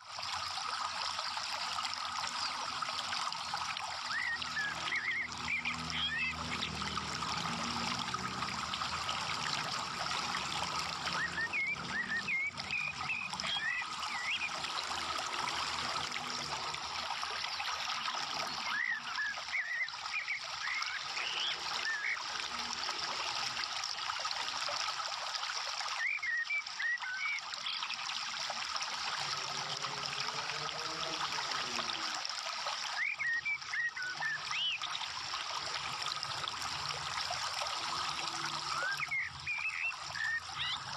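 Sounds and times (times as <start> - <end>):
trickle of running water: 0.0 - 40.9.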